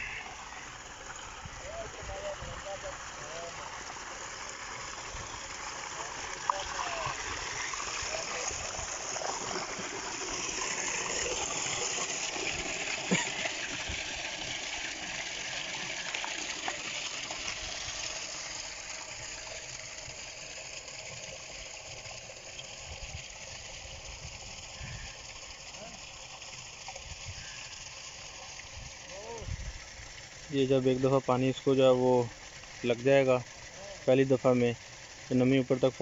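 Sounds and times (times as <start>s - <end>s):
water gushing from a pipe: 0.0s - 36.0s.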